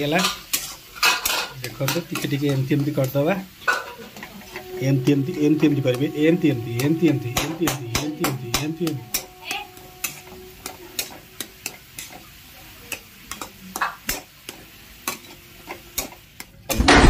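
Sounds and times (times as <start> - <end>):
metal spatula scraping a pan: 0.0 - 16.3
frying sizzle: 0.0 - 17.0.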